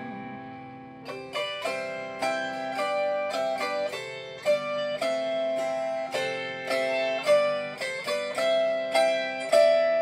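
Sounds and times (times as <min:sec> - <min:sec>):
autoharp chords strummed: 0:00.0 - 0:10.0.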